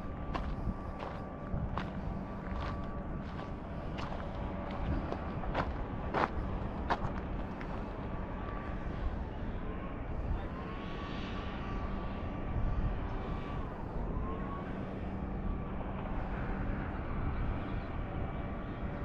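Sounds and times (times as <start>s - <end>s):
distant engine drone: 0.0s - 19.0s
wind buffeting microphone: 0.0s - 19.0s.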